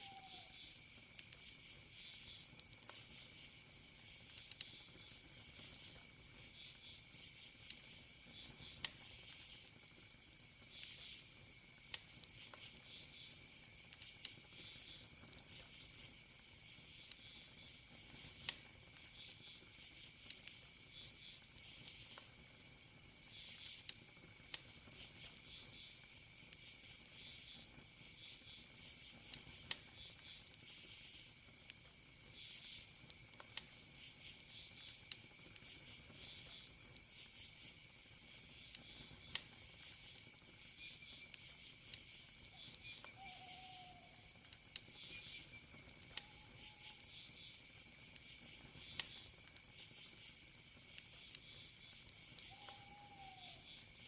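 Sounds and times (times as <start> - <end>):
campfire crackling and popping: 0.0 - 54.0
crickets trilling: 0.0 - 54.0
insect chirps: 0.0 - 54.0.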